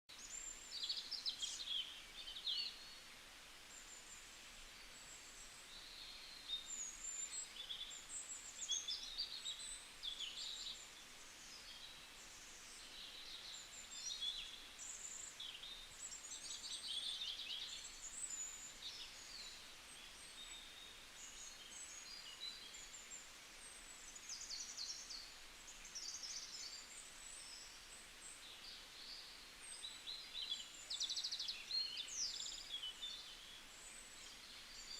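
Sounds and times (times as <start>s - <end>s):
faint steady hiss: 0.1s - 34.9s.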